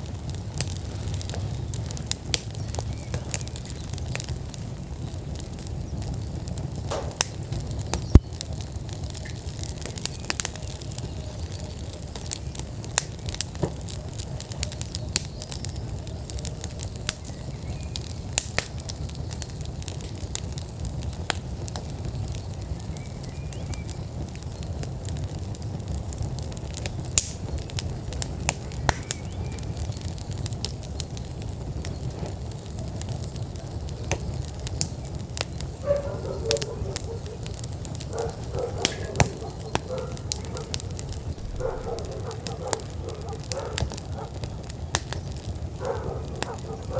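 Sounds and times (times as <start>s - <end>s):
low rumble of flame: 0.0s - 46.9s
wood fire crackling and popping: 0.0s - 46.9s.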